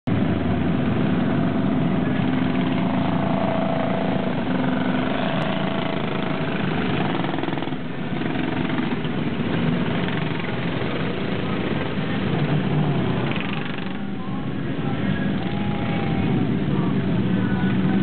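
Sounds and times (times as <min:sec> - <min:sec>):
race car engines droning: 0:00.0 - 0:18.0.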